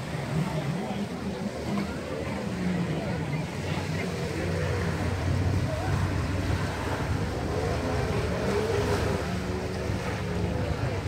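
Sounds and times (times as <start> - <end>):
distant voices: 0.0 - 11.0
surf: 0.0 - 11.0.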